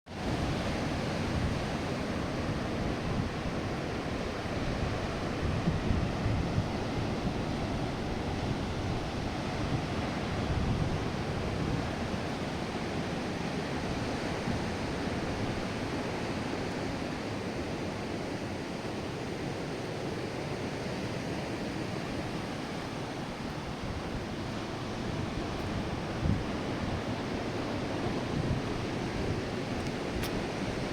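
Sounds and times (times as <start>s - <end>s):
surf on beach: 0.1s - 30.9s
wind buffeting microphone: 0.2s - 17.4s, 21.8s - 30.9s.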